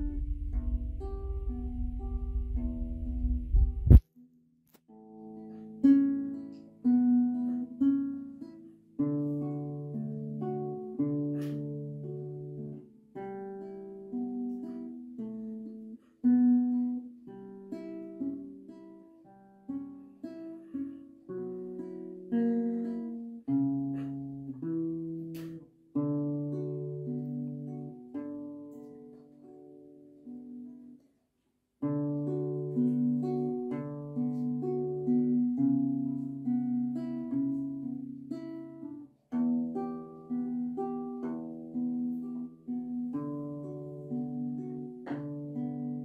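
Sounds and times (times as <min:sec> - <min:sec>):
fingerstyle acoustic guitar: 0:00.0 - 0:31.2, 0:31.8 - 0:46.0.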